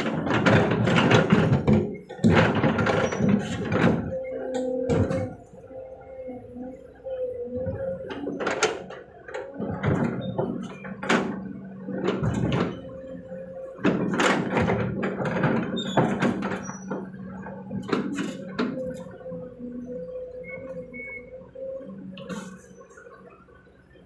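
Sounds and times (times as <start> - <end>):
excavator machine hum: 0.0 - 24.0.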